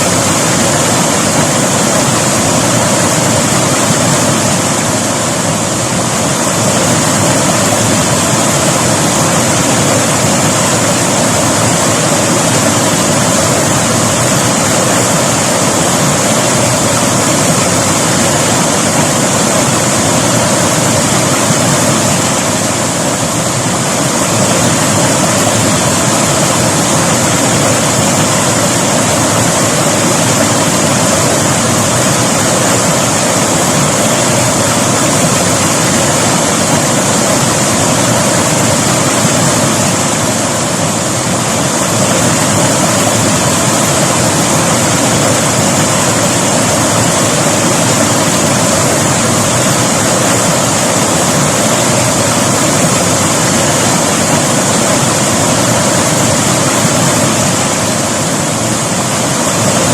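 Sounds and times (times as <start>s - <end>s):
river water rushing and splashing: 0.0s - 59.9s.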